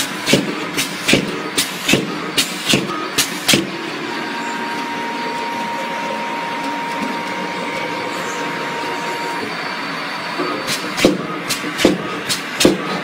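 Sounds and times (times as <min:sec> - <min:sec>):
machine clacking: 0:00.0 - 0:08.9, 0:10.4 - 0:13.0
machine humming with thin whine: 0:00.0 - 0:13.0.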